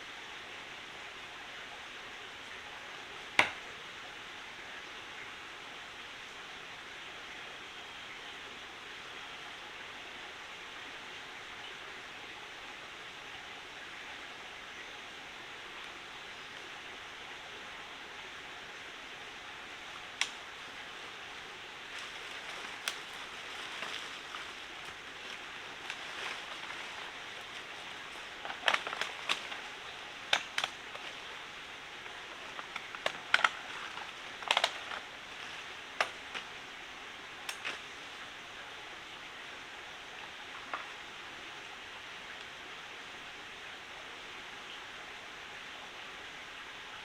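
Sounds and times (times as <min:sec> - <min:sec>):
forest stream rushing: 0:00.0 - 0:47.0.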